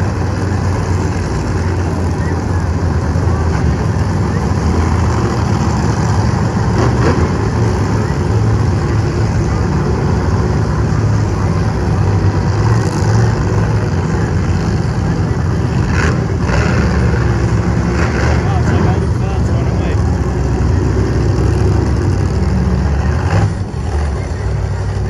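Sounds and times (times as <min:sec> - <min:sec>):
monster truck engine running: 0:00.0 - 0:25.0.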